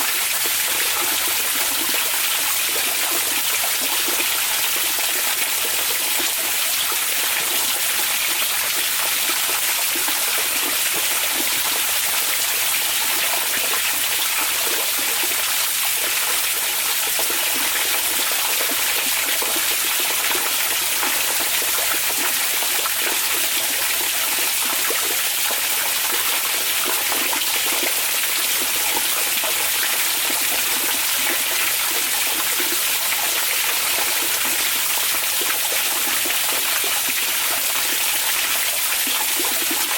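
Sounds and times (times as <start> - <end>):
hot spring water running: 0.0 - 39.9.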